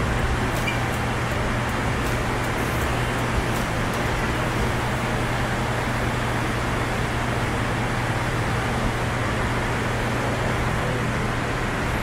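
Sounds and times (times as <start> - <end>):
constant low hum: 0.0 - 12.0
steady rushing noise: 0.0 - 12.0.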